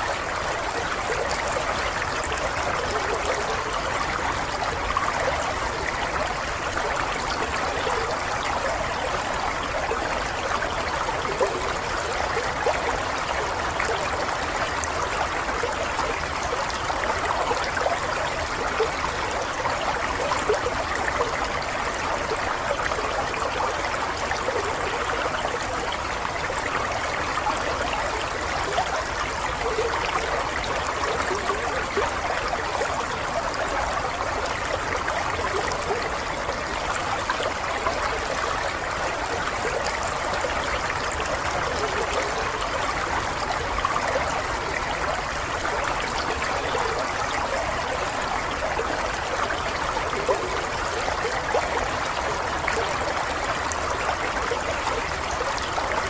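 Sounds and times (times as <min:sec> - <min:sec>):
running water babbling: 0:00.0 - 0:56.0.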